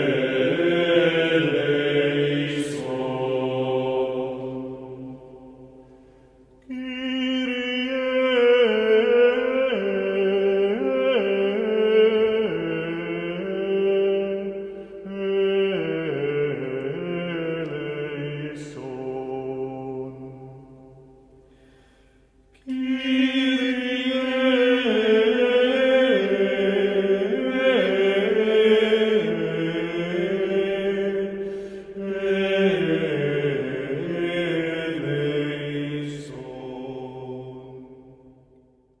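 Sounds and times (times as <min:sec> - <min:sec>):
voices chanting in harmony: 0:00.0 - 0:21.5, 0:22.6 - 0:38.6.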